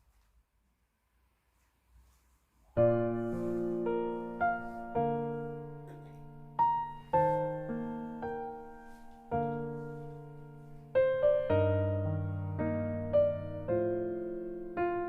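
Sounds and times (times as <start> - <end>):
slow piano music: 2.7 - 15.0.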